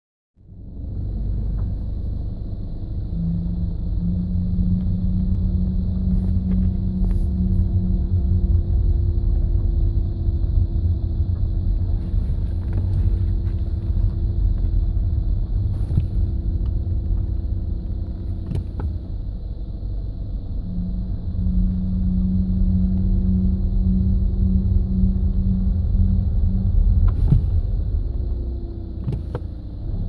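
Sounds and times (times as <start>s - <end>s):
deep steady rumble: 0.4s - 30.0s
low-pitched car groaning: 0.4s - 30.0s
steady droning tone: 0.4s - 30.0s.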